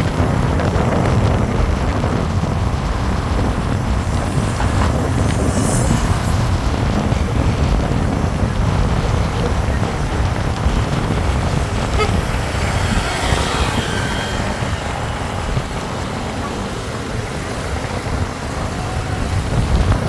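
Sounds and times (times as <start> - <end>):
vehicle rumbling in traffic: 0.0 - 20.0
wind buffeting microphone: 0.0 - 20.0.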